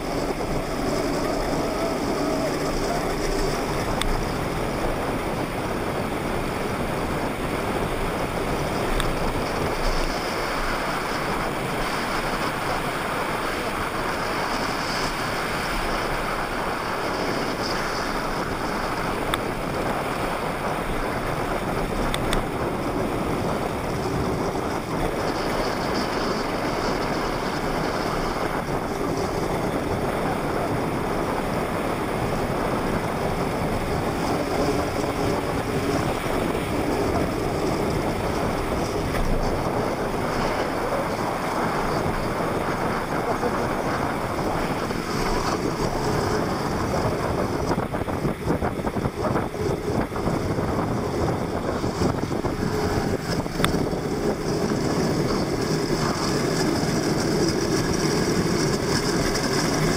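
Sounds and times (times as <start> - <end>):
plastic wheels rolling on asphalt: 0.0 - 59.9
wind on microphone: 0.0 - 59.9.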